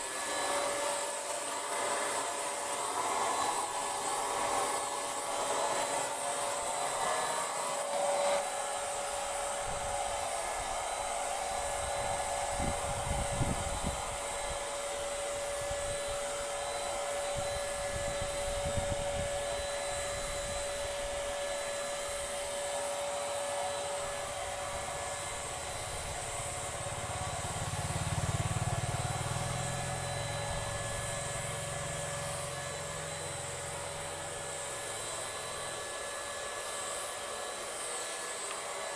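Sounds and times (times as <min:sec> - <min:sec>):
paint sprayer turbine whine: 0:00.0 - 0:38.9.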